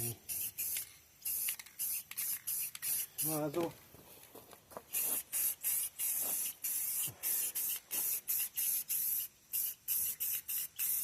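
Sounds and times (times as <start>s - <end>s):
spray paint can hissing: 0.0s - 3.7s, 4.8s - 11.0s.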